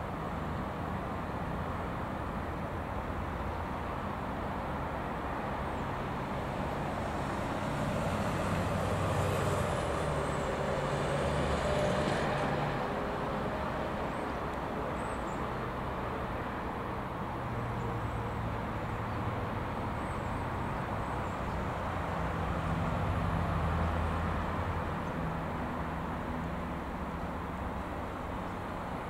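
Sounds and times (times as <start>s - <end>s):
diesel locomotive engine drone: 0.0s - 29.0s.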